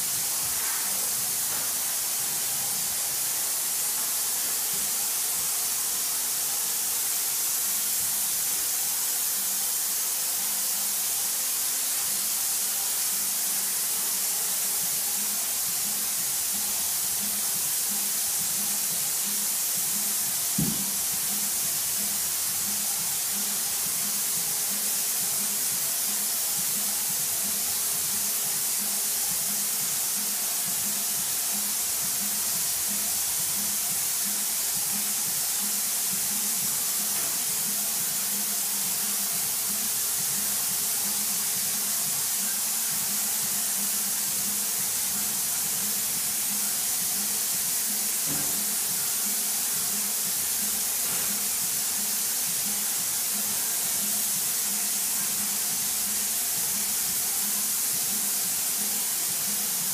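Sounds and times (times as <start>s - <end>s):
paint spray gun hissing: 0.0s - 59.9s.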